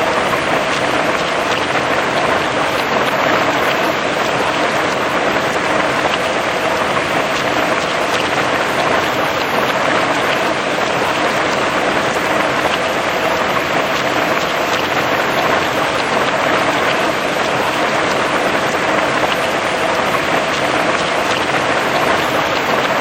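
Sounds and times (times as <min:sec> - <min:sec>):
heavy rain on leaves: 0:00.0 - 0:23.0.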